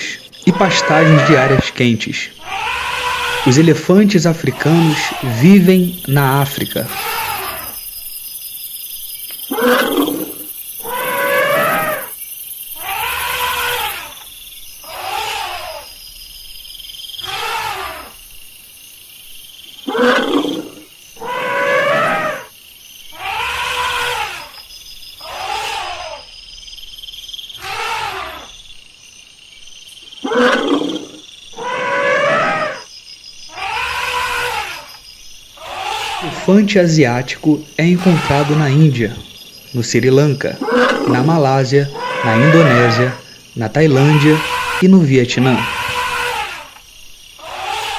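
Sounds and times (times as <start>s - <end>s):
elephant calling: 0.0s - 7.9s, 9.3s - 16.0s, 17.2s - 18.2s, 19.8s - 22.5s, 23.1s - 24.6s, 25.2s - 26.3s, 27.5s - 28.6s, 30.2s - 32.9s, 33.5s - 35.0s, 35.6s - 47.9s.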